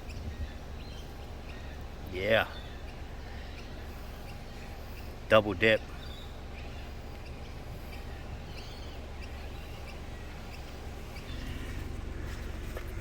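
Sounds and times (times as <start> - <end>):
faint bird chirps: 0.0 - 13.0
low background hum: 0.0 - 13.0.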